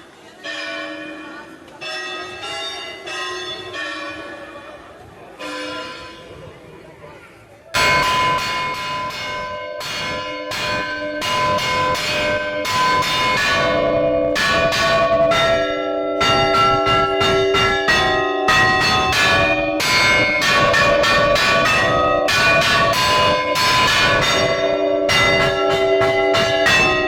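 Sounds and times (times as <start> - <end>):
church bells ringing: 0.2 - 6.4, 7.8 - 27.0.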